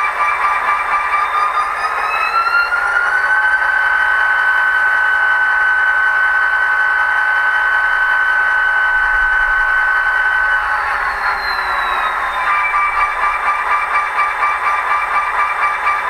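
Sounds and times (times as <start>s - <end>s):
model train diesel engine sound: 0.0s - 16.0s.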